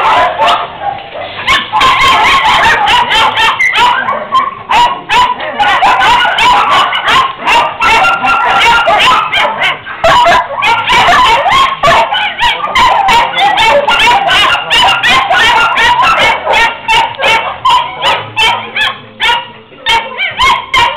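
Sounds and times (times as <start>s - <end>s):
many dogs barking: 0.0s - 20.9s.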